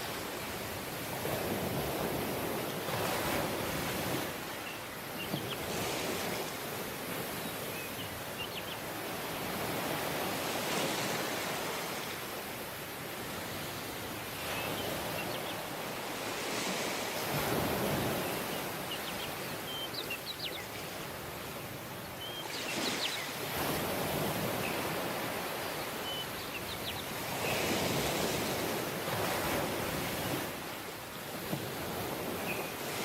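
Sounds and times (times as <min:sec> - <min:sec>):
waves washing onto beach: 0:00.0 - 0:33.0.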